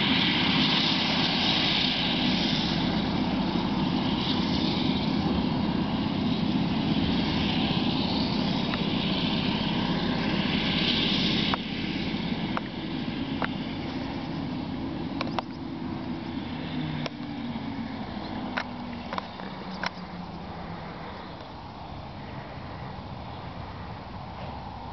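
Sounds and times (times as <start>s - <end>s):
forage harvester drone: 0.0s - 24.9s.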